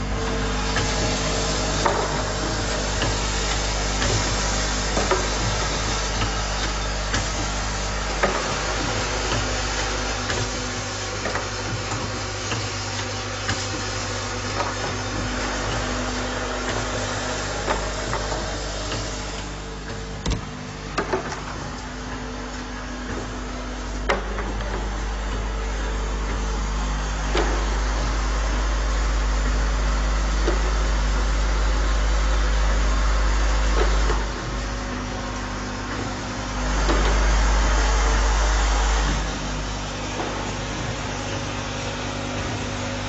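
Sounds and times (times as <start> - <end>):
machine humming: 0.0 - 43.0.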